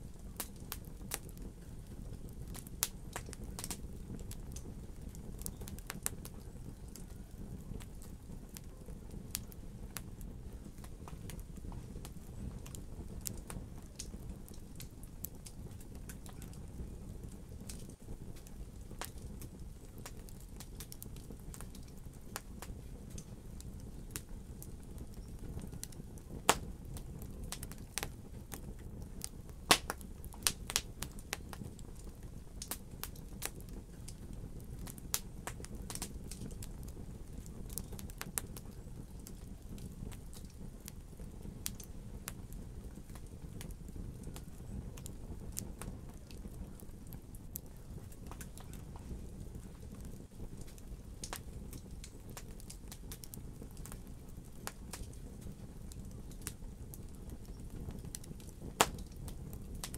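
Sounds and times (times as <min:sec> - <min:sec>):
fire rumbling: 0:00.0 - 0:59.9
wood crackling and popping: 0:00.0 - 0:59.9.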